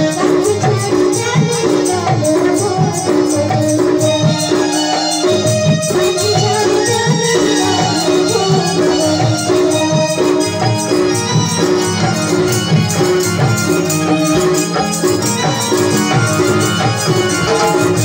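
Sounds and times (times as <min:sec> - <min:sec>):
folk dance music with percussion: 0:00.0 - 0:18.0.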